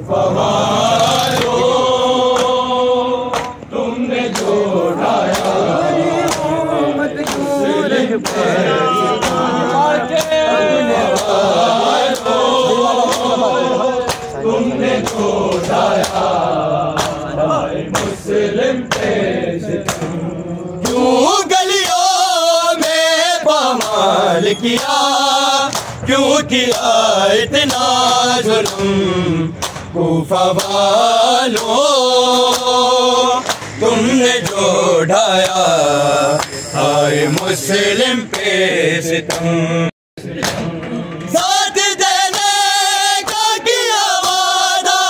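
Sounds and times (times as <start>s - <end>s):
men chanting in unison: 0.0s - 45.0s.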